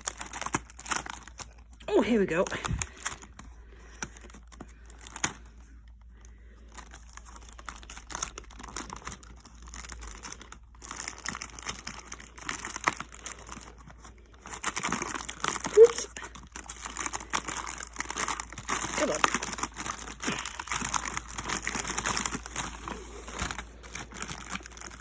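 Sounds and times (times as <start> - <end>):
paper wrapping crinkling: 0.0 - 25.0.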